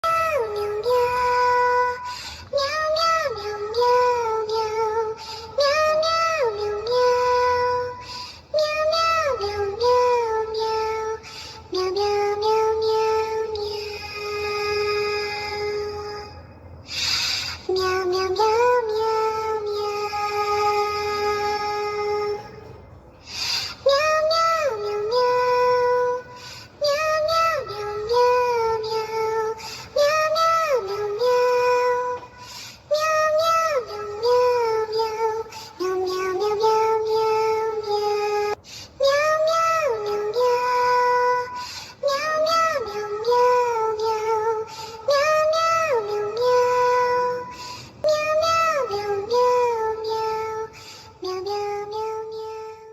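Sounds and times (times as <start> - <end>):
synthetic singing voice: 0.0 - 22.7, 23.3 - 52.9.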